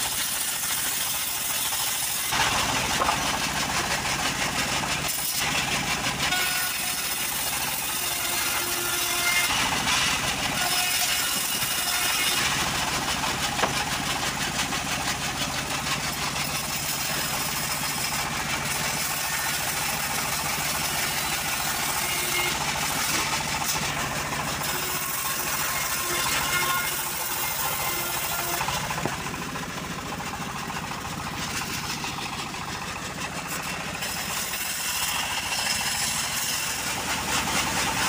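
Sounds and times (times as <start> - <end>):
band saw cutting wood: 0.0 - 38.0
stationary engine running: 0.0 - 38.0.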